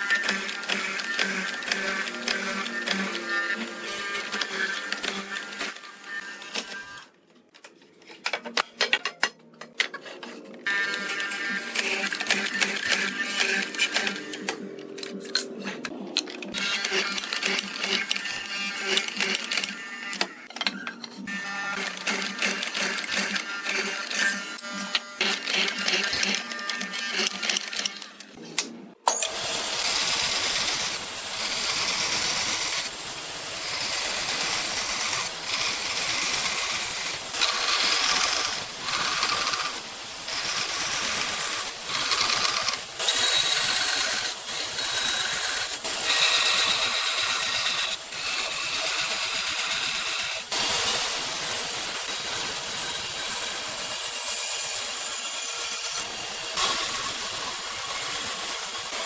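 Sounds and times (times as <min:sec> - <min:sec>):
power tool on wood: 0:00.0 - 0:07.1, 0:10.6 - 0:14.7, 0:16.5 - 0:28.4, 0:29.1 - 0:59.0.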